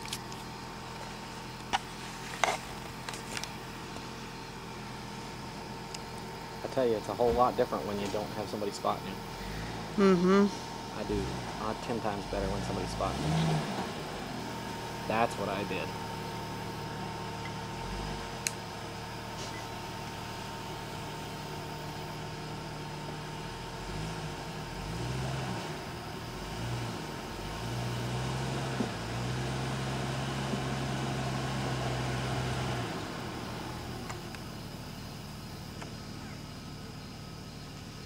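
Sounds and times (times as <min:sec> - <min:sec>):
suv engine at low revs: 0:00.0 - 0:38.0.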